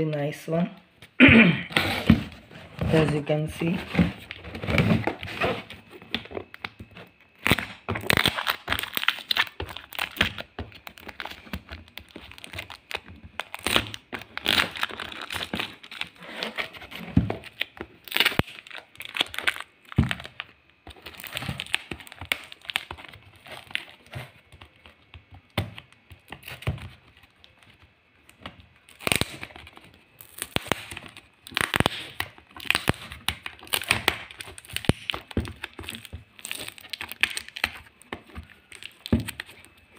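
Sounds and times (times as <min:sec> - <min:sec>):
plastic mailer crinkling: 0:01.8 - 0:25.2, 0:25.8 - 0:39.9.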